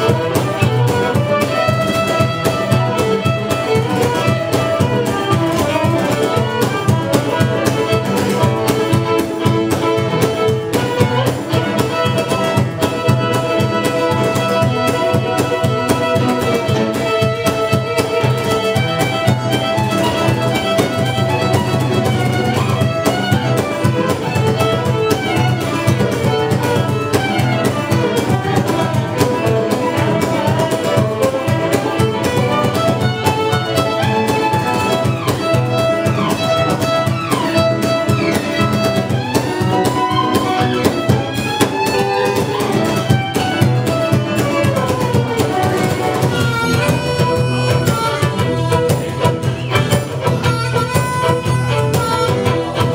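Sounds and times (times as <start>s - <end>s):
bowed fiddle lead: 0.0s - 52.9s
finger-picked acoustic guitar: 0.0s - 52.9s
hand percussion: 0.0s - 52.9s.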